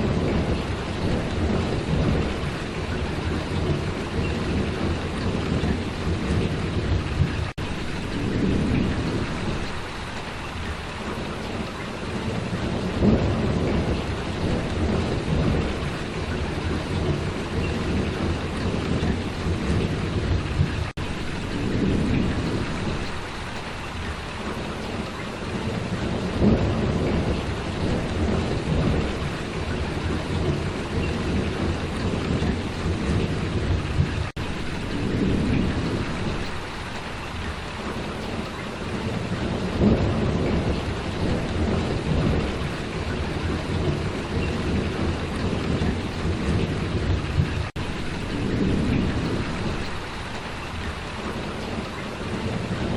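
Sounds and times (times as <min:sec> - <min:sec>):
heavy rainfall: 0:00.0 - 0:52.9
thunder rumbling: 0:00.0 - 0:52.9.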